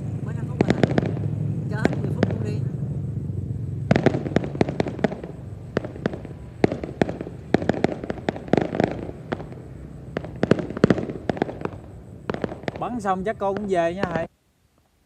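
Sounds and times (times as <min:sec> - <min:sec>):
fireworks bangs and pops: 0:00.0 - 0:02.7, 0:03.8 - 0:14.3.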